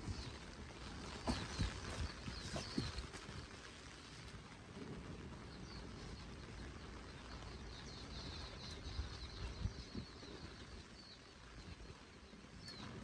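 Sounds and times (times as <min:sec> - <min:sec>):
wind buffeting microphone: 0:00.0 - 0:03.6, 0:04.6 - 0:13.0
steady rain: 0:00.0 - 0:13.0.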